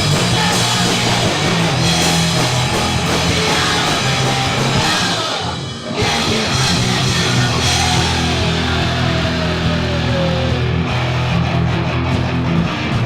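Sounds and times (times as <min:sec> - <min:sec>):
punk rock band playing: 0:00.0 - 0:13.0.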